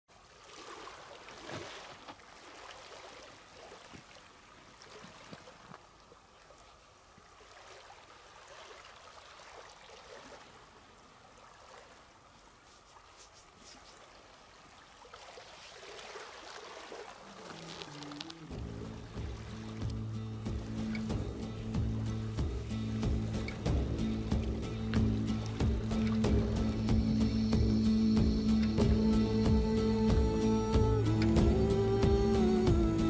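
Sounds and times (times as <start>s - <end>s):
faint running water: 0.1s - 32.4s.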